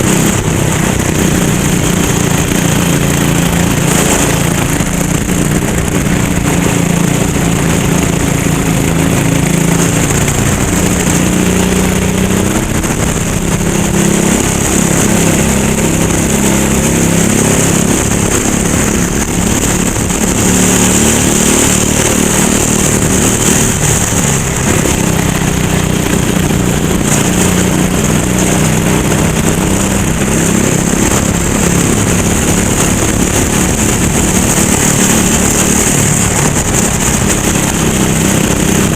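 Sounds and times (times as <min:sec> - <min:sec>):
racing kart engine revving: 0:00.0 - 0:38.9.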